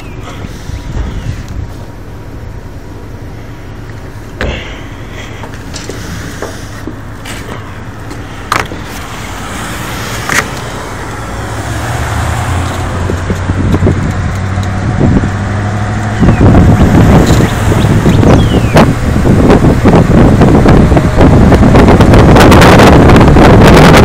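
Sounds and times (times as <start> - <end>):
wind buffeting microphone: 0.0 - 3.3, 5.5 - 24.0
road noise: 0.0 - 24.0
truck engine running: 0.0 - 24.0.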